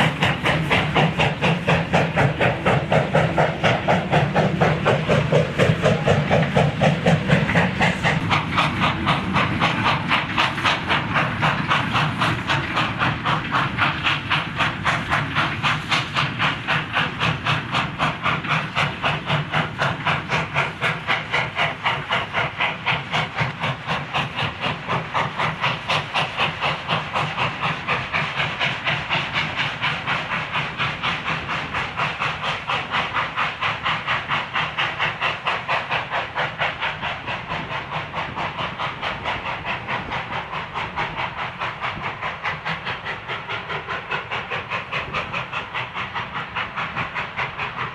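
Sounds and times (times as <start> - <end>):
steam hissing: 0.0 - 47.9
steam locomotive chuffing: 0.0 - 47.9.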